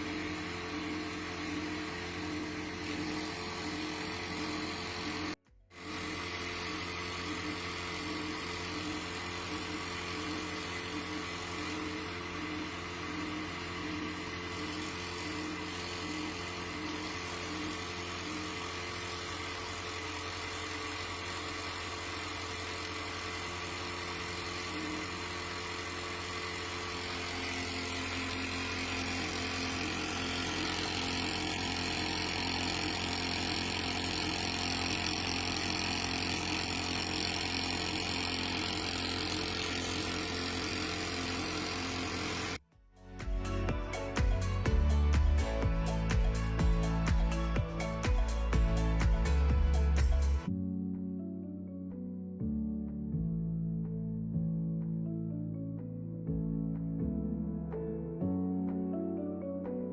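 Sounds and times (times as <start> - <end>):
sewing machine humming: 0.0 - 42.6, 43.2 - 50.5.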